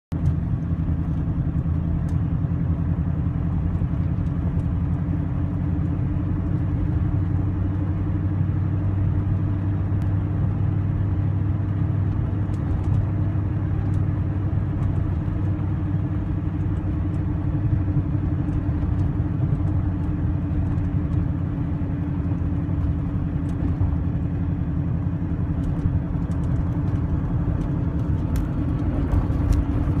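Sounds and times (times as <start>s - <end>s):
car engine idling with misfire: 0.2s - 30.0s.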